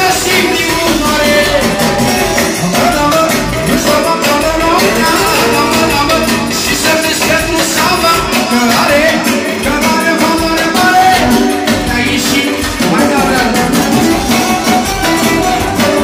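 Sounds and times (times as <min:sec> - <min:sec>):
electronic keyboards: 0:00.0 - 0:16.0
man singing into a microphone: 0:00.0 - 0:16.0
steady beat: 0:00.0 - 0:16.0.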